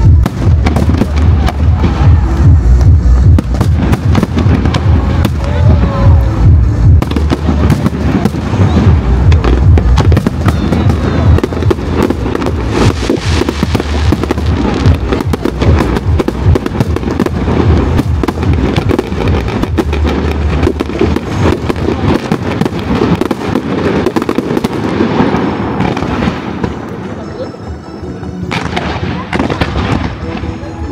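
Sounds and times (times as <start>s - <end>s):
fireworks crackling and popping: 0.0s - 27.5s, 28.5s - 30.9s.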